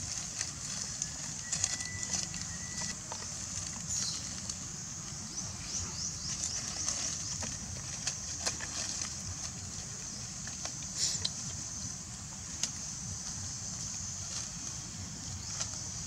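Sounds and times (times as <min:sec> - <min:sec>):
dry leaves rustling and crackling: 0:00.0 - 0:16.0
high-pitched background hiss: 0:00.0 - 0:16.0.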